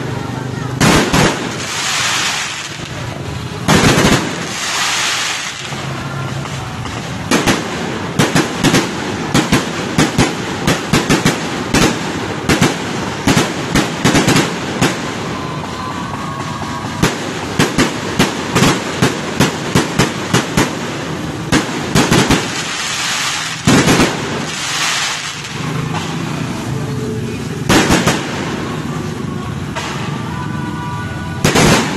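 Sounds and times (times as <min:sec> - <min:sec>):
fireworks bangs: 0:00.0 - 0:31.9
fireworks hissing: 0:00.1 - 0:30.4.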